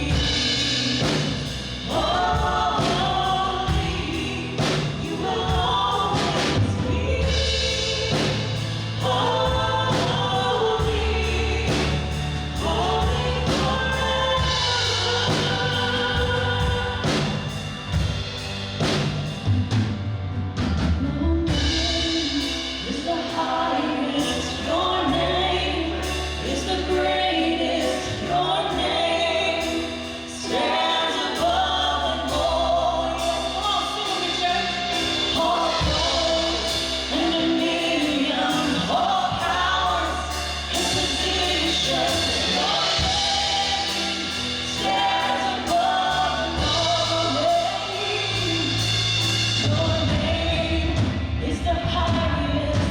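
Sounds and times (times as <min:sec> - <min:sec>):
group of singers: 0:00.0 - 0:19.5, 0:20.8 - 0:52.9
band with bass and drums: 0:00.0 - 0:52.9.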